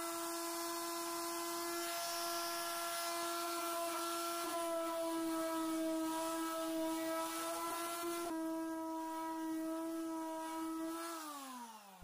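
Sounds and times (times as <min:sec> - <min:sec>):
electric palm sander running: 0:00.0 - 0:12.0.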